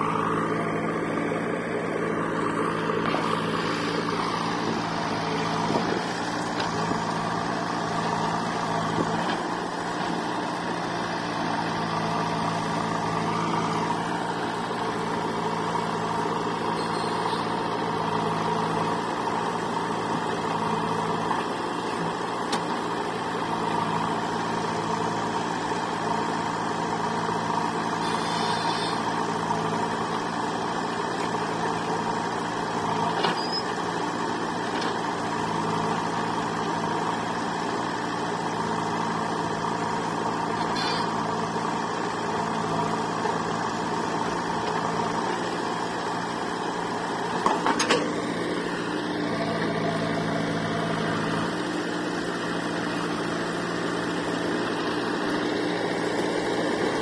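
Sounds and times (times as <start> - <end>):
backhoe loader diesel engine: 0.0 - 57.0
tractor idling: 0.0 - 57.0.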